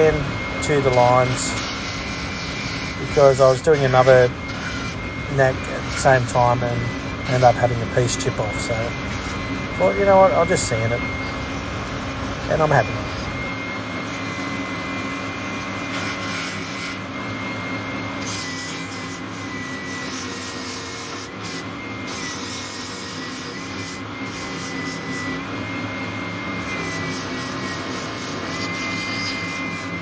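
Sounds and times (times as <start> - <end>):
power sander motor whine: 0.0 - 30.0.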